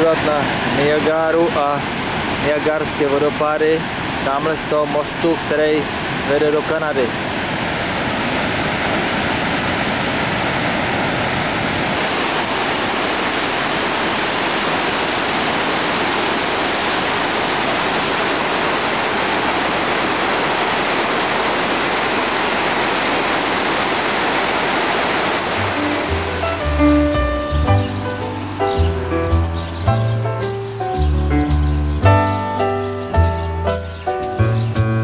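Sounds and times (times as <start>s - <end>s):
rushing water: 0.0s - 35.0s.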